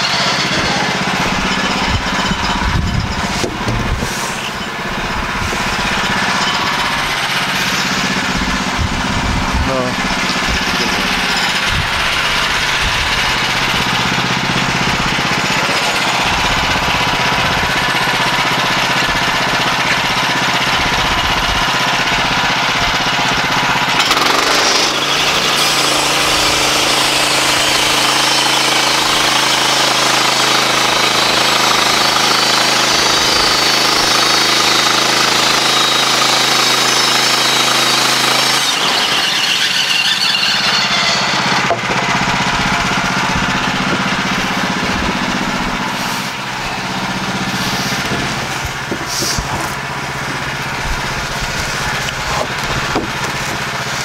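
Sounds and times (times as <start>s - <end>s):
bandsaw sawmill cutting log: 0.0s - 54.0s.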